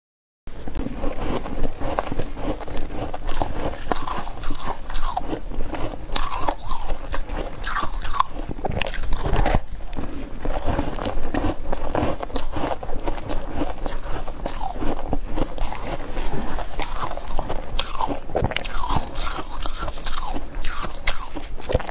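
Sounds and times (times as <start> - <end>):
chewing ice crunches: 0.6 - 21.9.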